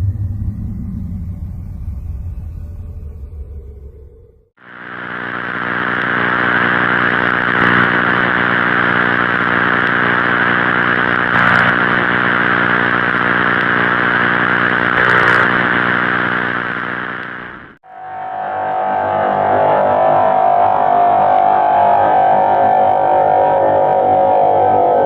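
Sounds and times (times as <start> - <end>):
buzzy electronic drone: 0.0 - 25.0.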